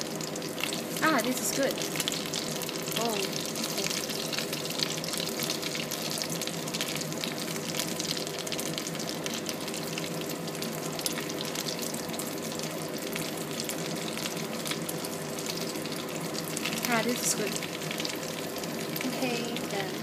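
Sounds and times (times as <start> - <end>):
food deep-frying in oil: 0.0 - 20.0.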